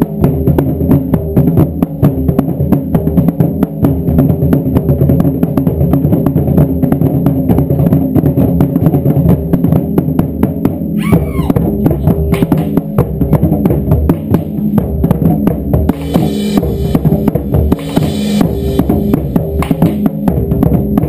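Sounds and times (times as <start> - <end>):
taiko drums beating: 0.0 - 21.0.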